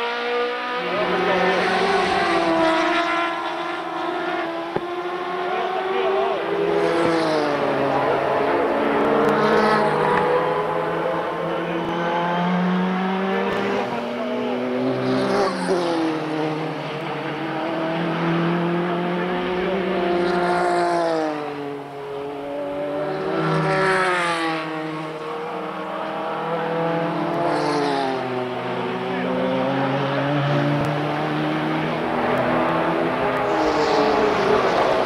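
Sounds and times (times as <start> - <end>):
race car engines through corners: 0.0 - 35.0.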